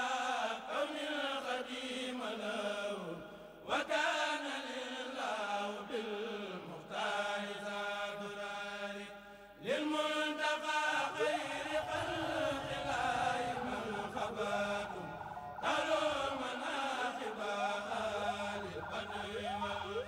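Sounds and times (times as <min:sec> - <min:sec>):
person chanting religious poem: 0:00.0 - 0:20.0.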